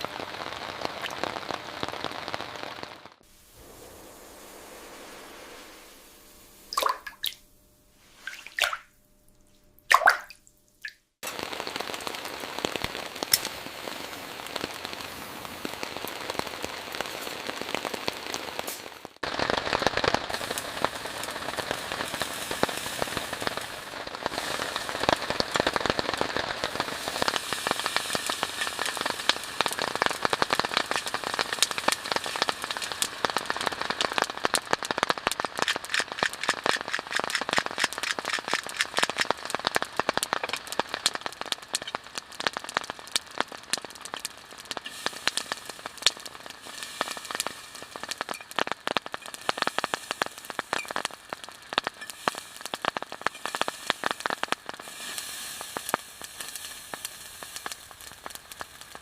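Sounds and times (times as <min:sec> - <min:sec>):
rain falling on a surface: 0:00.0 - 0:06.1, 0:11.2 - 0:59.0.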